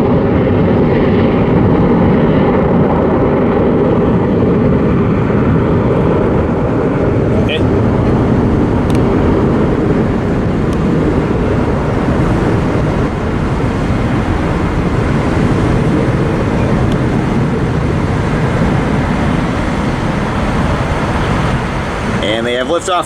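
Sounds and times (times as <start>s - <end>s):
jet engines roaring at takeoff: 0.0s - 23.0s.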